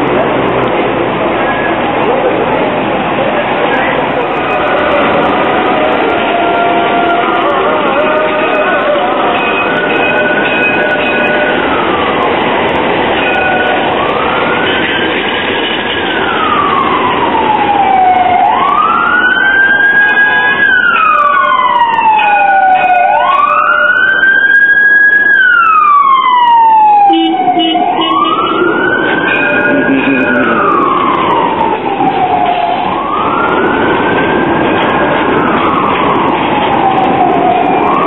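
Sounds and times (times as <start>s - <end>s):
street noise: 0.0s - 38.0s
emergency siren wailing: 3.7s - 38.0s.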